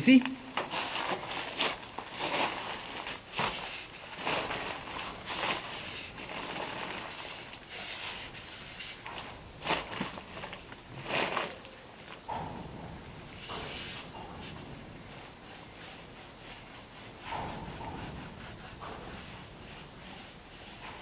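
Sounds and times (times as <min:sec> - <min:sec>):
foam roller wet hissing strokes: 0:00.6 - 0:12.2, 0:13.3 - 0:21.0.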